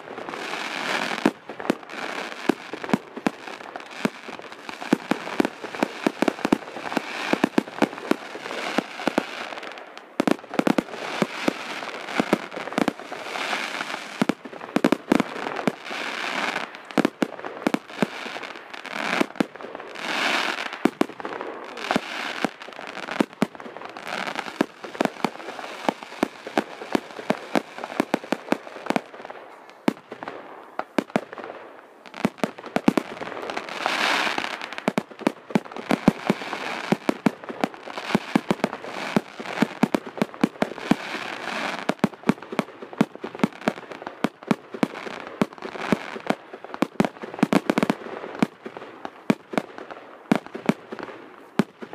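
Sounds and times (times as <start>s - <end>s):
fireworks bangs and pops: 0.0s - 51.9s
fireworks crackling: 0.0s - 51.9s.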